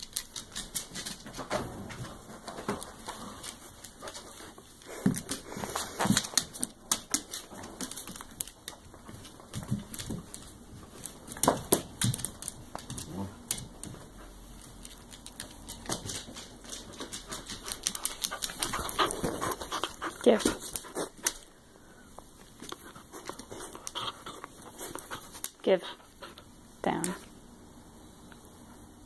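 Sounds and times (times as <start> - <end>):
dog claws clicking on hard floor: 0.0 - 21.5, 22.4 - 27.3.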